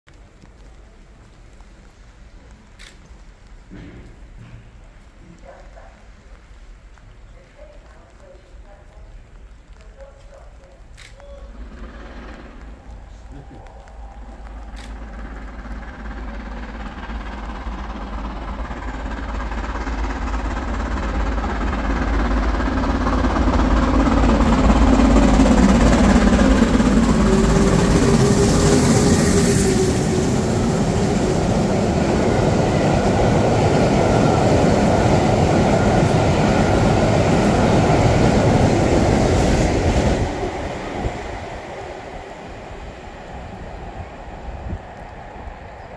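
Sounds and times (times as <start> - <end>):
train wheels rumbling: 0.1 - 45.9
steam locomotive passing at speed: 0.2 - 45.9.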